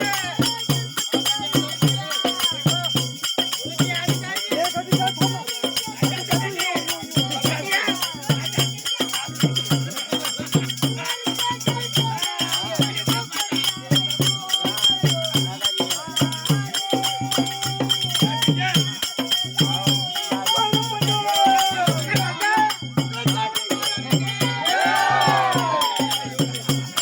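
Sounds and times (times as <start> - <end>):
person singing: 0.0 - 27.0
rattling jingling percussion: 0.0 - 27.0.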